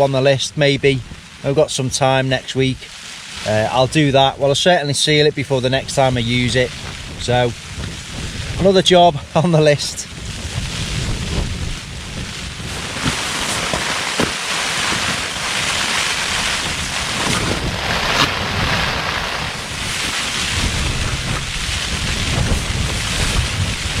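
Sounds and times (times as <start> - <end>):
gusting wind: 0.0 - 24.0
rain on a tent: 0.0 - 24.0
wind rumble on microphone: 3.4 - 24.0.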